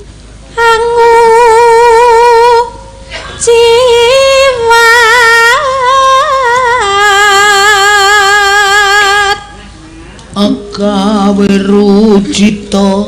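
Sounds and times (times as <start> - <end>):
woman singing with vibrato: 0.5 - 9.6, 10.4 - 13.0.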